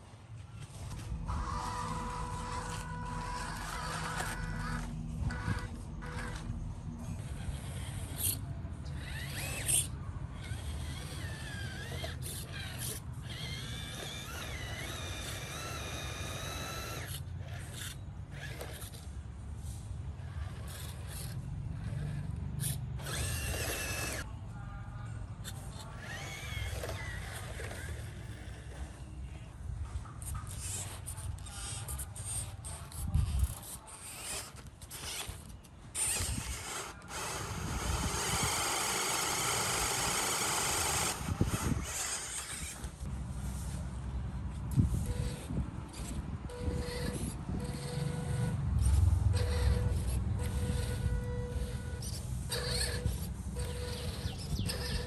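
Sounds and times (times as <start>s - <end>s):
electric motor whining: 0.6s - 19.1s, 20.2s - 24.3s, 25.8s - 28.9s, 30.3s - 43.1s, 44.6s - 55.0s.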